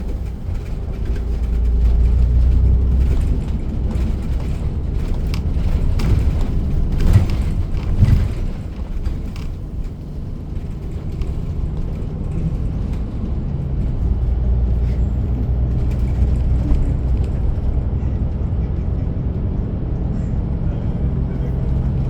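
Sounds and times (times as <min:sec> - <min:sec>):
bus drivetrain humming: 0:00.0 - 0:22.0
road noise: 0:00.0 - 0:22.0.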